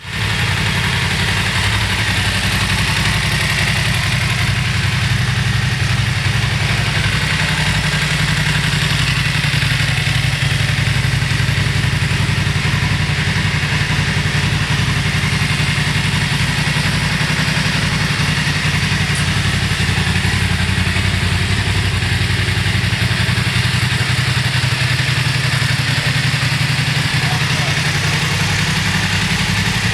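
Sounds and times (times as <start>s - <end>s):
motorcycle engine idling: 0.0s - 29.9s.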